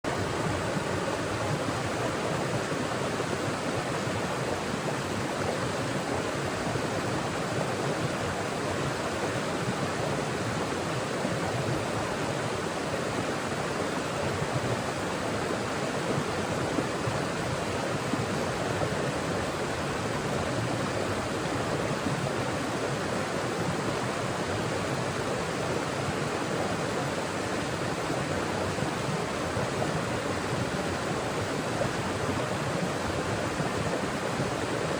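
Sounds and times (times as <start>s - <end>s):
stream running over rocks: 0.1s - 34.9s.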